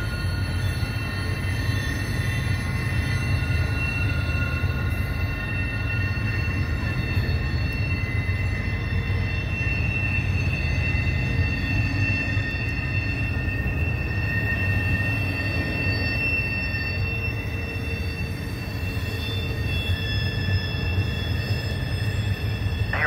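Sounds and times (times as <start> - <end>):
freight train rumble: 0.0 - 23.0
high-pitched wheel squeal: 0.0 - 23.0.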